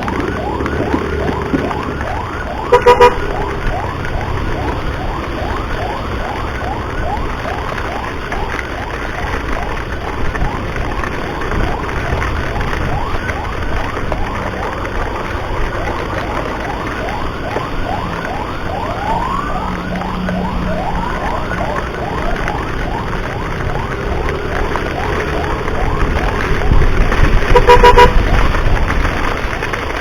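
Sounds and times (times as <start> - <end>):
emergency siren yelp: 0.0 - 30.0
wind and road noise: 0.0 - 30.0.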